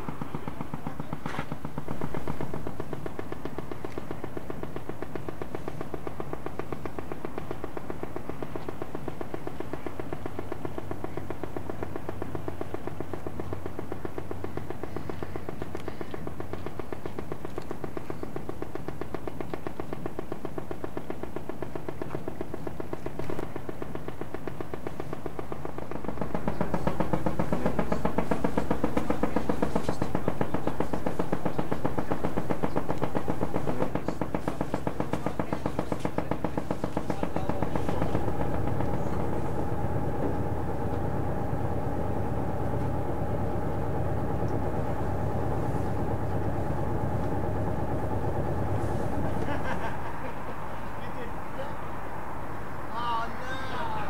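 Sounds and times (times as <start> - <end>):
diesel boat engine running: 0.0 - 54.0.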